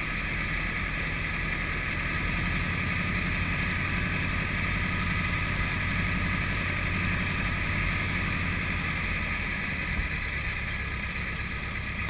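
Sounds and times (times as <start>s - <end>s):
piston engine idling: 0.0s - 12.0s
propeller and air noise: 0.0s - 12.0s.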